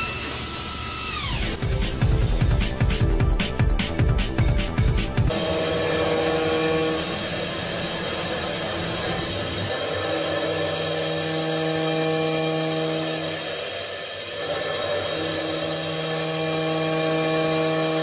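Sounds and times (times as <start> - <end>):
hissing metal cutting: 0.0 - 2.9, 5.2 - 18.0
machine hum: 0.0 - 18.0.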